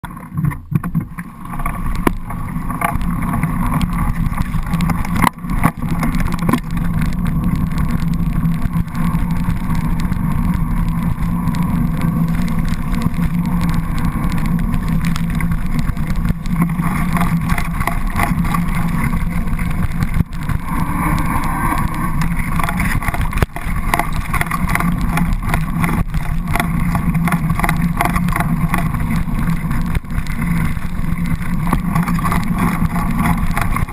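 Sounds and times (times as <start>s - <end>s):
bicycle tyre vibration: 0.0s - 33.9s
wind rumble: 0.0s - 33.9s.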